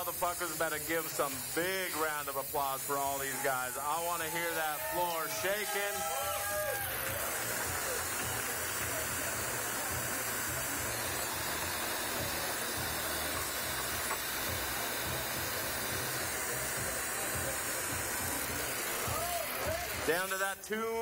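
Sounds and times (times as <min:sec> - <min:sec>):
bench torches hissing: 0:00.0 - 0:20.7.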